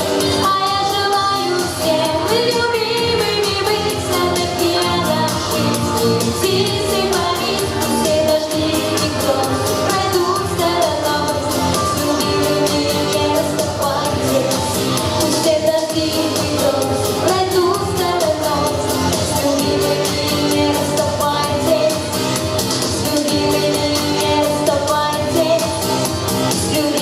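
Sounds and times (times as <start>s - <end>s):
pop song with singer: 0.0s - 27.0s.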